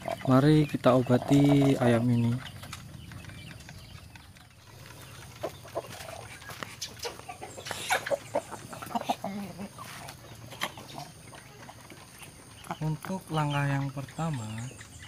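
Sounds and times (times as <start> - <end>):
chicken clucking: 0.0 - 15.0.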